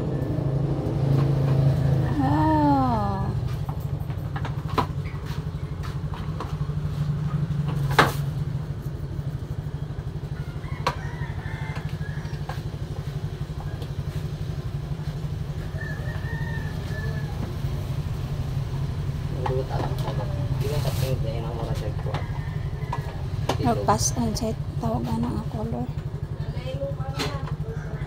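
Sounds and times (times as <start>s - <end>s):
low pulsing engine hum: 0.0s - 28.0s.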